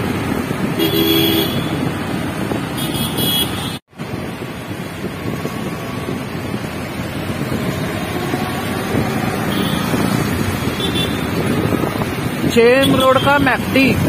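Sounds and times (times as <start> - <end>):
wind rushing over microphone: 0.0 - 3.3, 3.9 - 14.0
street traffic: 0.0 - 14.0.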